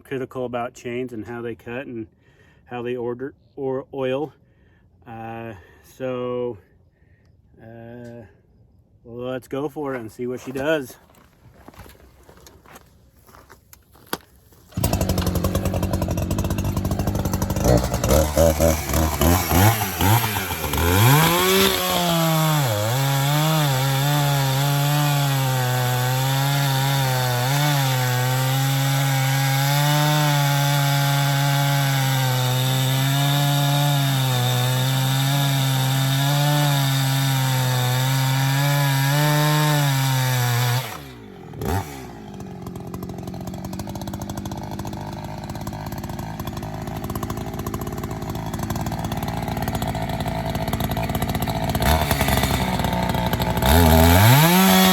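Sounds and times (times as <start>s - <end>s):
chainsaw cutting log: 10.2s - 54.9s.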